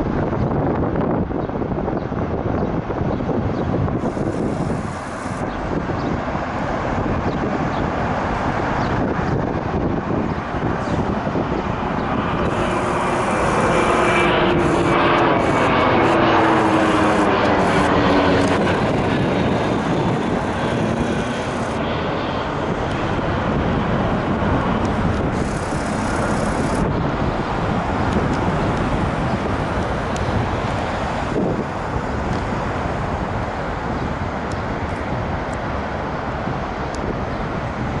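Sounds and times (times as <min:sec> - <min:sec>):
jet airliner passing overhead: 0:00.0 - 0:38.0
wind noise on microphone: 0:00.0 - 0:38.0.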